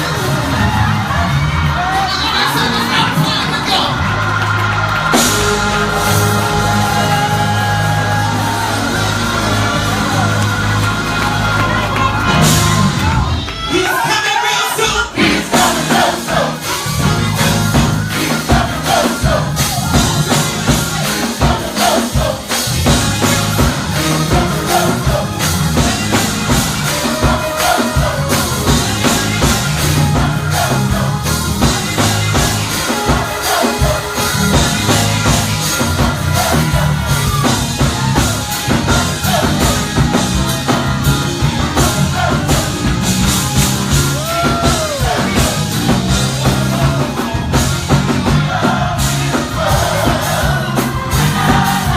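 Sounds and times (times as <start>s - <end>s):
band with drums: 0.0s - 51.9s
gospel choir singing: 0.0s - 51.9s.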